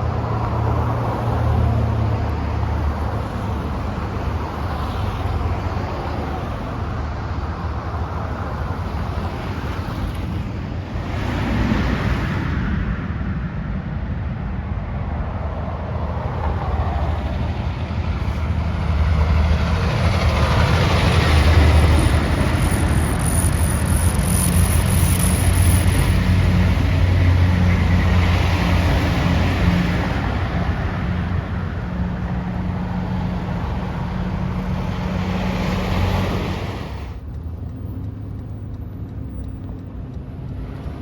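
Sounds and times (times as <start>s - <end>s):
road vehicle rumble: 0.0s - 41.0s.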